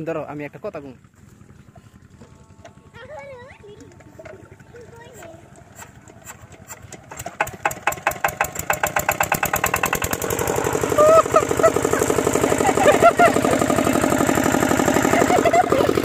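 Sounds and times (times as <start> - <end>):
diesel engine starting up: 1.0 - 16.0.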